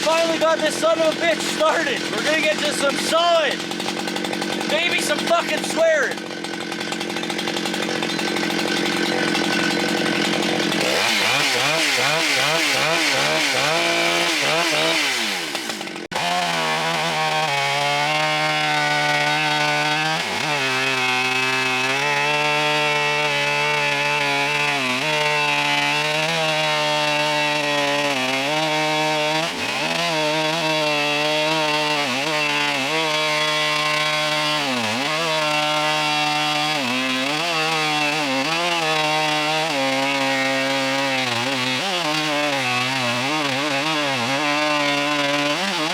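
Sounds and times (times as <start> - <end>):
chainsaw cutting through log: 0.0 - 45.9.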